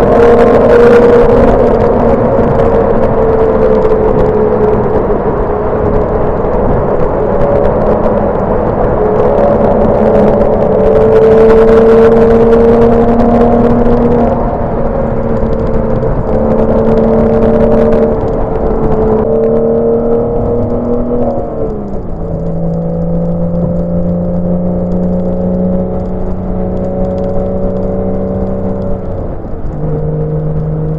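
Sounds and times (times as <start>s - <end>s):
car engine cruising: 0.0s - 30.9s.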